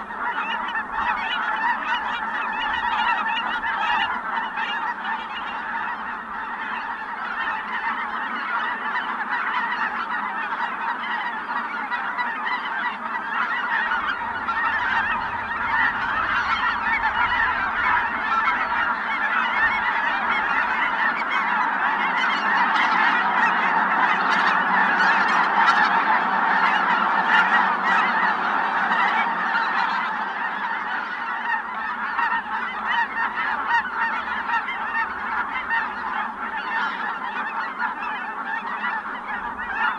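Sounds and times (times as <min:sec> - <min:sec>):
geese honking: 0:00.0 - 0:39.9.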